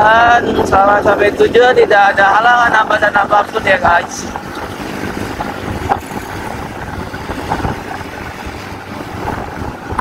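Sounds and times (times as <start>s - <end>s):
motorcycle engine running: 0.0s - 10.0s
road noise: 0.0s - 10.0s.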